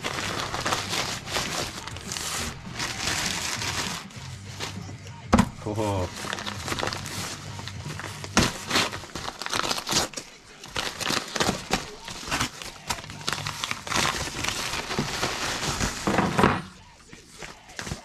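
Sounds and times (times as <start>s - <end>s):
packaging crinkling and tearing: 0.0s - 4.9s, 5.6s - 18.0s.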